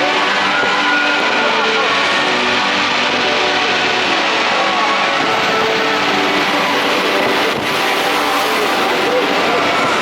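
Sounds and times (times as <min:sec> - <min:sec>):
dense wash of noise: 0:00.0 - 0:10.0
fireworks show music: 0:00.0 - 0:10.0.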